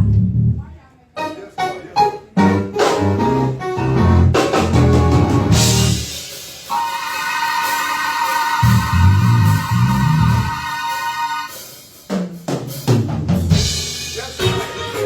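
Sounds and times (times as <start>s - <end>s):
live band playing: 1.2s - 15.0s.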